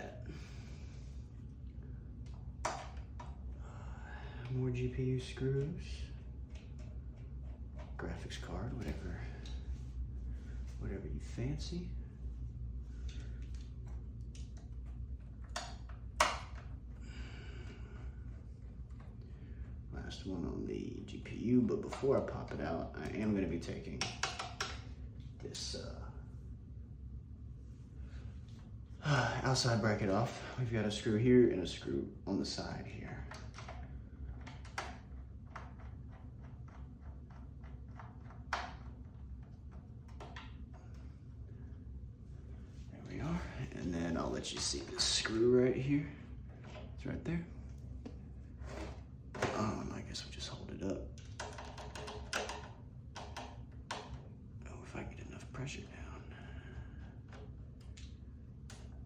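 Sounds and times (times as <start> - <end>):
low hum: 0.0 - 51.5.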